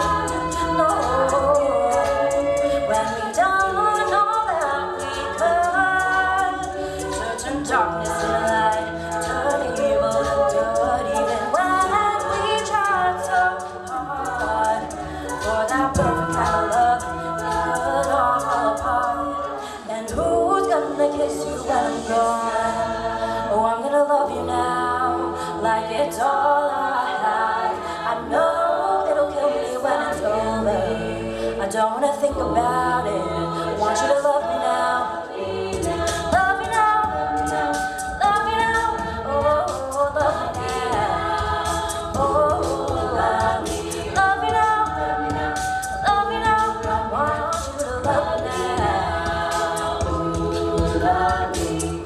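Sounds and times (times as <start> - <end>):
vocal percussion beat: 0.0 - 52.0
women singing in harmony: 0.0 - 52.0.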